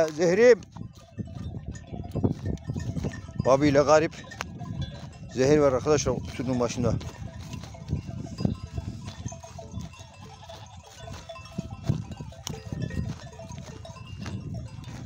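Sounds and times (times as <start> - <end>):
animal bells jangling: 0.0 - 15.0
wind rumble on microphone: 0.0 - 15.0.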